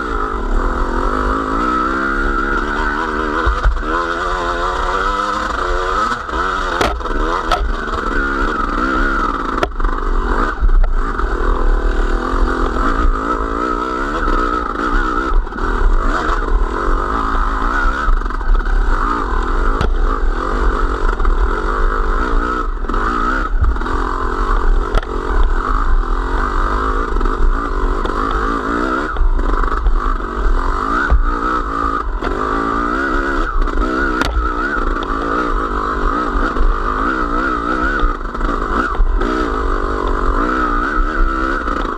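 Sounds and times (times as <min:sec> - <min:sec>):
clatter: 0:00.0 - 0:41.9
small vehicle engine running: 0:00.0 - 0:41.9.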